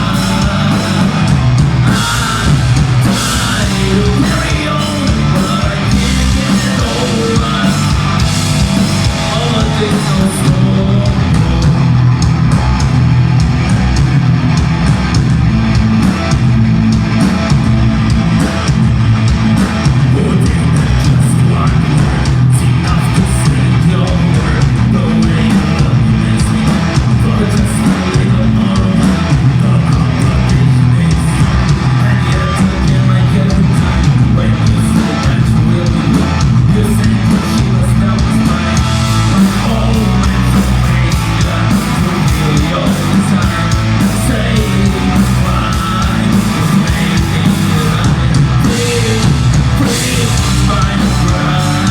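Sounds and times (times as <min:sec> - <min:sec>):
person singing: 0:00.0 - 0:12.0, 0:19.9 - 0:51.9
distorted guitars: 0:00.0 - 0:51.9
drums: 0:00.0 - 0:51.9.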